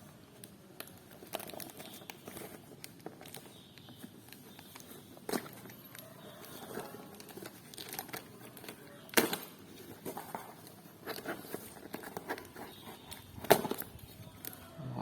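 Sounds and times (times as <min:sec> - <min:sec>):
packaging crinkling and tearing: 0:00.3 - 0:14.7.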